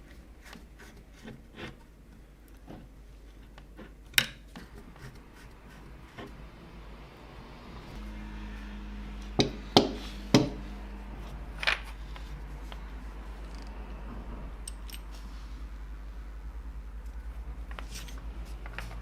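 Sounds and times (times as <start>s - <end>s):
steady low hum: 1.8s - 19.0s.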